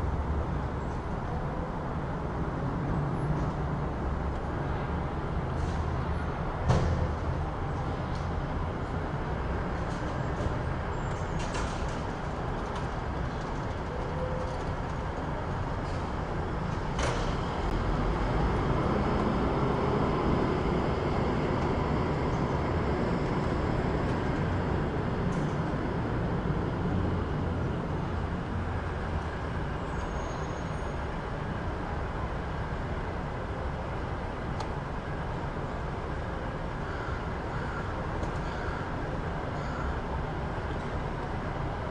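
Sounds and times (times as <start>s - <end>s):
road traffic: 0.0s - 41.9s.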